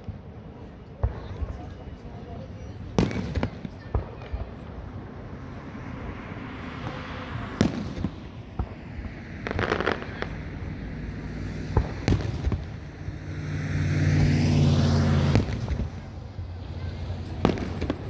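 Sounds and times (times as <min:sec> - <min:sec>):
fireworks bangs: 0:00.0 - 0:18.0
fireworks crackle: 0:01.0 - 0:13.2, 0:15.2 - 0:18.0.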